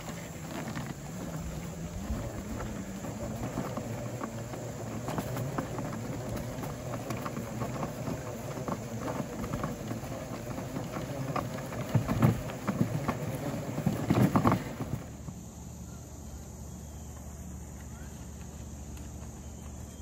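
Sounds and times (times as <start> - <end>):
quiet outdoor background: 0.0 - 20.0
spreader wheels and spinner rattling: 0.0 - 20.0.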